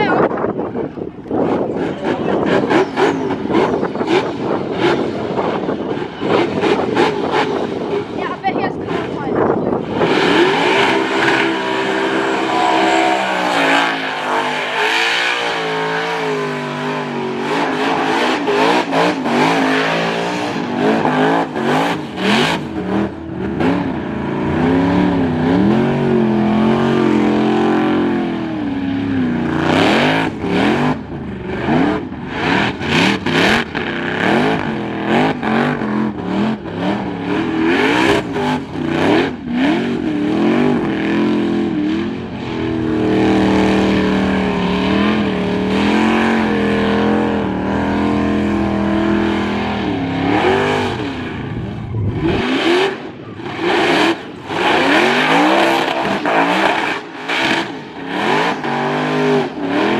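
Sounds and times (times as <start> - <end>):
car engine revving hard: 0.0 - 59.9.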